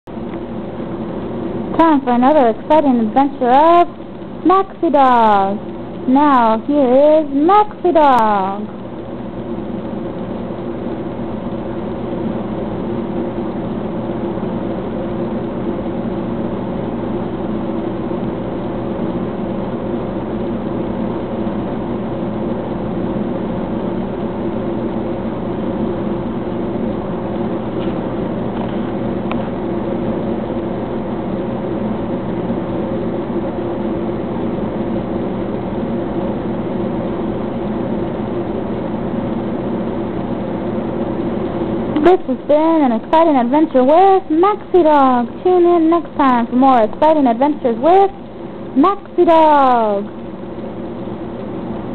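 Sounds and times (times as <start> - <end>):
steady mechanical drone: 0.1 - 51.9.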